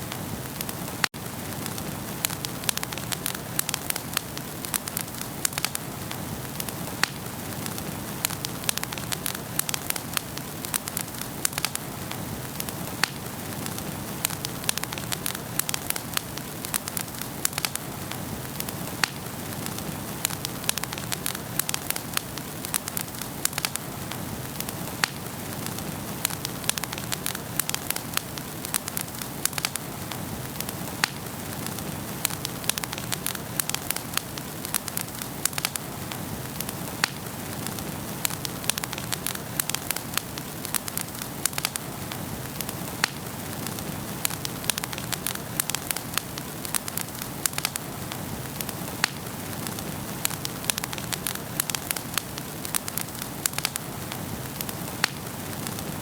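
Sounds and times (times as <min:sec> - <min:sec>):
logs crackling and popping: 0:00.0 - 0:56.0
wood fire flames hissing: 0:00.0 - 0:56.0.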